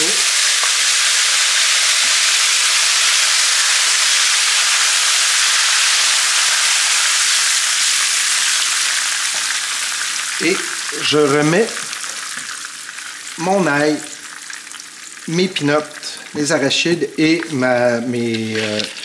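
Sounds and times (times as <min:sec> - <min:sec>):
vinegar sizzling in hot oil: 0:00.0 - 0:19.0.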